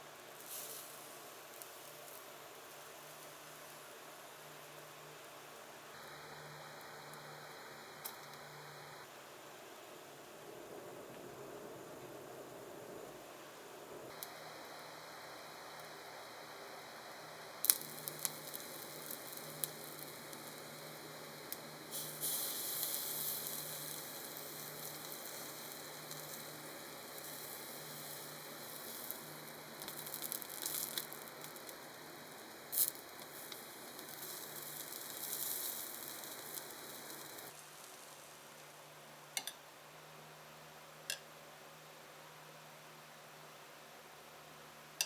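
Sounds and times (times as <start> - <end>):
food sizzling in a pan: 0.3 - 9.0, 10.3 - 39.6.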